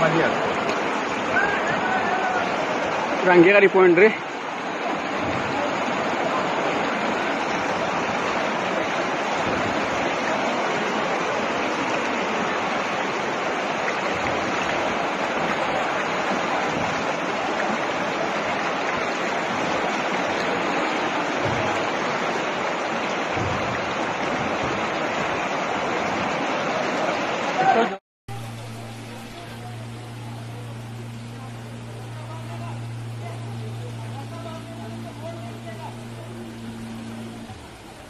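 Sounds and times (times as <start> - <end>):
floodwater rushing: 0.0 - 38.0.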